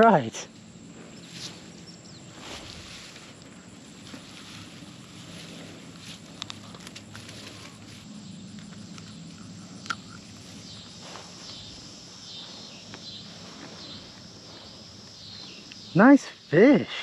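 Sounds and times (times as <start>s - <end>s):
grass rustling: 0.0s - 16.8s
insects chirring: 0.0s - 17.0s.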